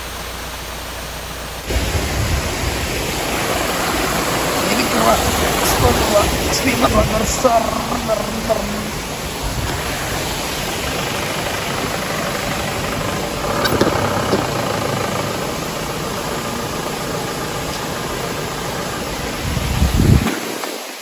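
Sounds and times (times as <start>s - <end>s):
engine running: 0.0s - 20.3s
water running over rocks: 0.0s - 21.0s.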